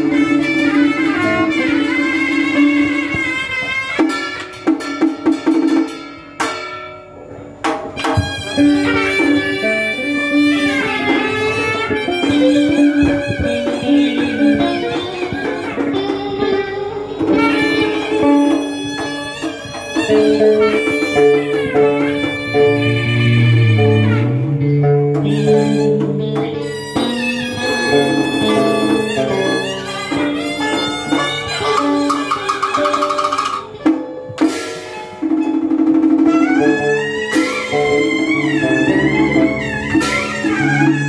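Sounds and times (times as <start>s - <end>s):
bowed string melody: 0.0s - 4.6s, 7.9s - 33.9s, 36.2s - 41.0s
sharp percussion strokes: 0.0s - 16.5s, 17.2s - 41.0s
plucked strings: 0.0s - 41.0s.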